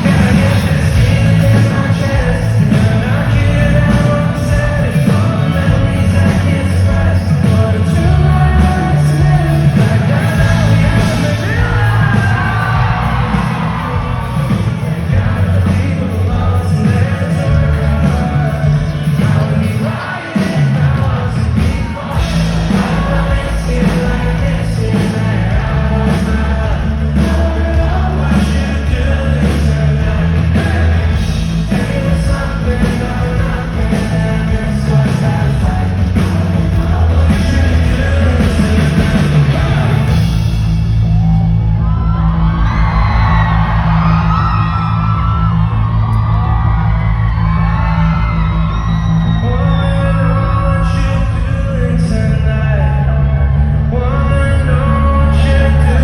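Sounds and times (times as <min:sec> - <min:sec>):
live rock band with vocals: 0:00.0 - 0:56.0
audience whooping and screaming: 0:07.2 - 0:56.0.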